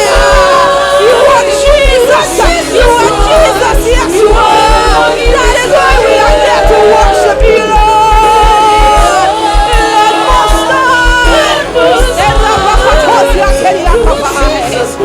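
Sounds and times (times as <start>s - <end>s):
crowd voices: 0.0s - 15.0s
gospel worship music: 0.0s - 15.0s
steady drum beat: 0.0s - 15.0s
sung melody: 0.0s - 15.0s.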